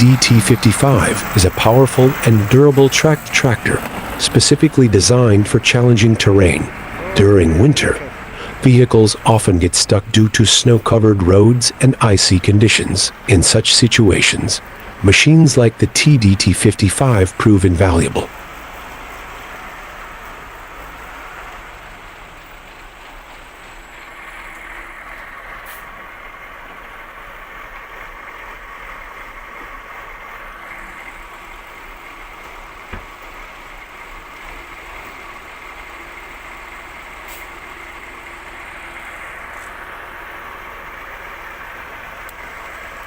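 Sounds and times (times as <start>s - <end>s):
heavy vehicle engine running: 0.0s - 43.0s.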